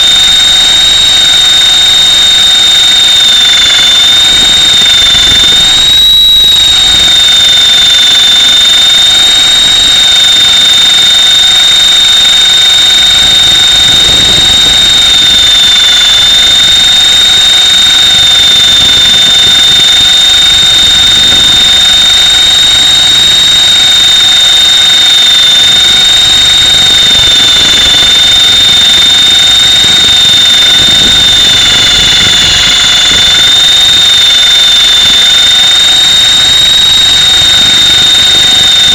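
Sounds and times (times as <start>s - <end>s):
high-pitched motor whine: 0.0s - 38.9s
rotor rumble: 0.0s - 38.9s.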